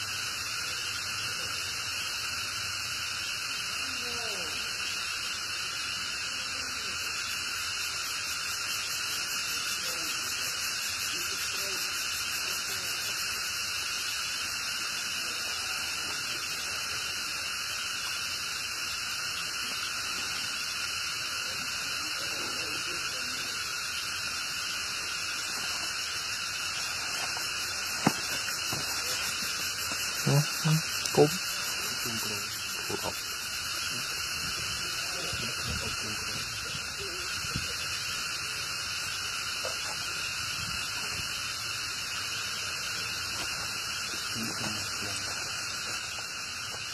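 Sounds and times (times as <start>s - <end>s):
insect chorus: 0.0s - 46.9s.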